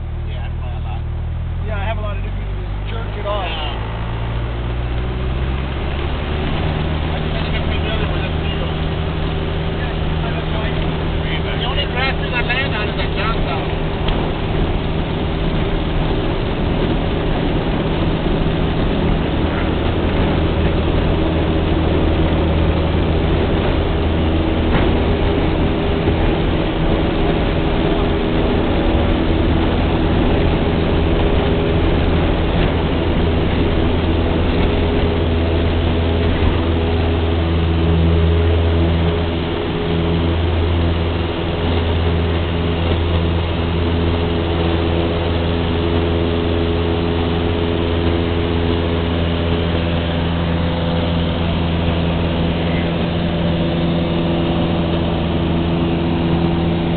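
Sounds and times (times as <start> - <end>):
light aircraft engine and propeller: 0.0 - 56.9.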